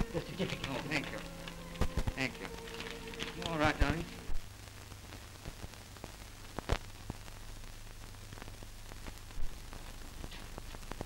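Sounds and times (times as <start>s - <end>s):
film soundtrack hiss: 0.0s - 11.0s.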